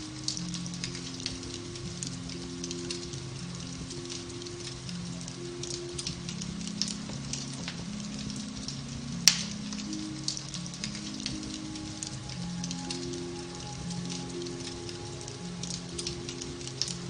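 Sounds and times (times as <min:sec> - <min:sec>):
fire crackling and popping: 0:00.0 - 0:17.0
soft piano music: 0:00.0 - 0:17.0.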